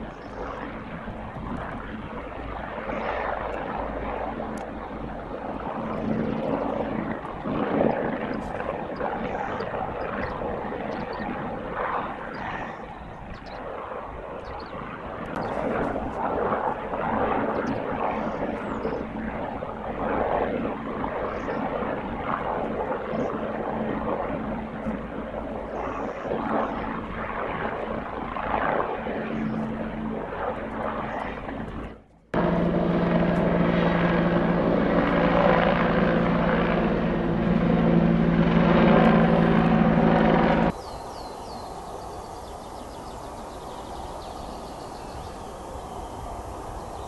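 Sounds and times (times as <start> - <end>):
distant helicopter rotor and turbines: 0.0 - 47.0.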